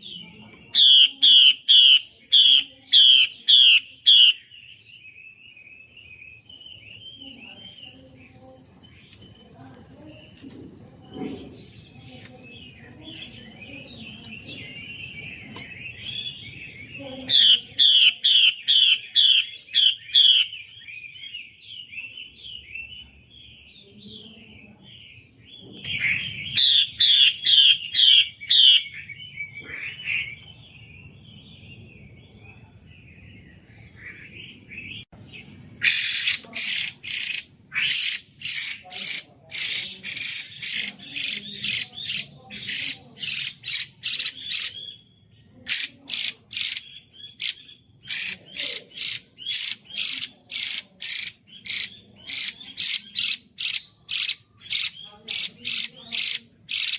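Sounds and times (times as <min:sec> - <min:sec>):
songbird twittering chatter: 0:00.0 - 0:56.9.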